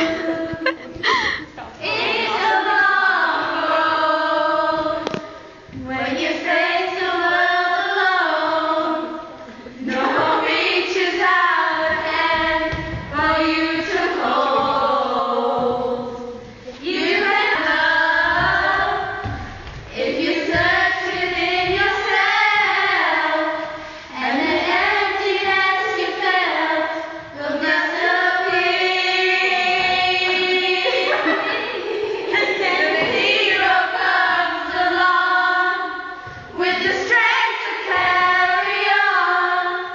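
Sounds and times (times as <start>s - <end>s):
girls singing together: 0.0s - 39.9s.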